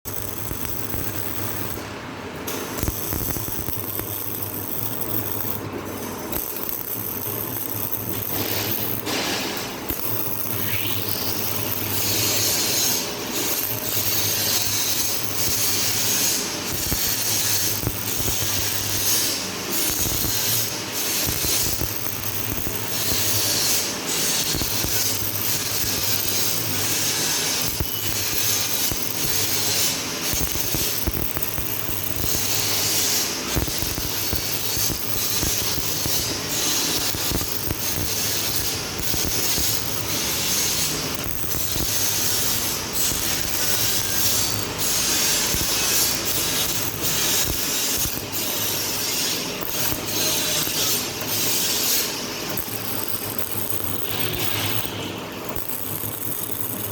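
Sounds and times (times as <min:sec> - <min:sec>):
welding arc crackle and hiss: 0:00.0 - 0:56.9
low electrical hum: 0:00.1 - 0:56.9.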